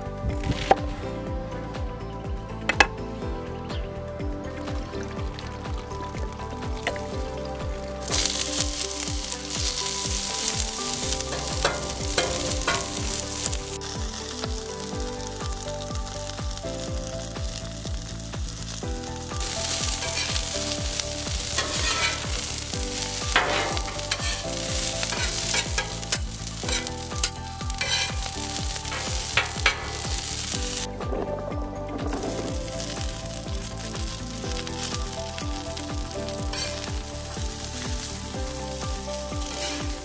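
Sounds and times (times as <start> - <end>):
background music with a beat: 0.0 - 40.0
fish sizzling on a griddle: 6.6 - 30.9, 32.1 - 40.0.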